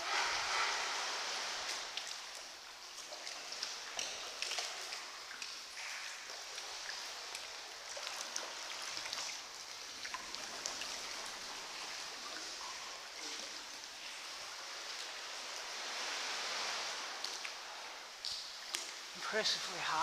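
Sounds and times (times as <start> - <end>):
water drips and splashes: 0.0 - 20.0.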